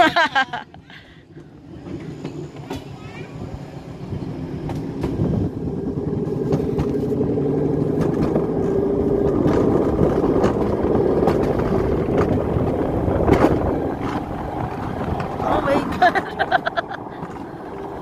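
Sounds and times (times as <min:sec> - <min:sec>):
rumble of wheels on rail: 0:00.0 - 0:18.0.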